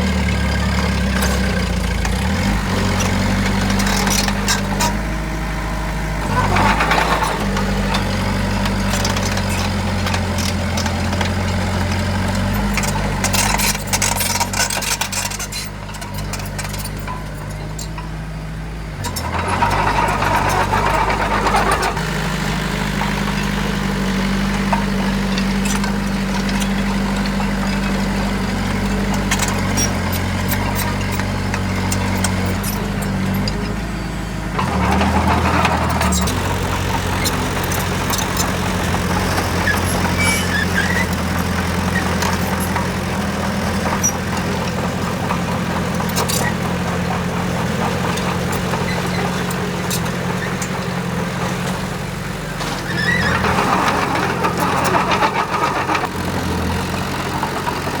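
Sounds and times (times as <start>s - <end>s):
heavy diesel engine running: 0.0s - 58.0s
machine rattling and clattering: 6.2s - 18.1s, 19.0s - 33.8s, 34.6s - 58.0s.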